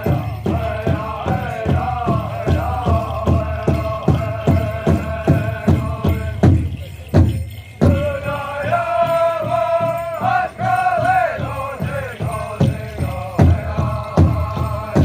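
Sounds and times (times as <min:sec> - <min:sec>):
large drum steady beat: 0:00.0 - 0:15.0
singers high voices: 0:00.0 - 0:15.0.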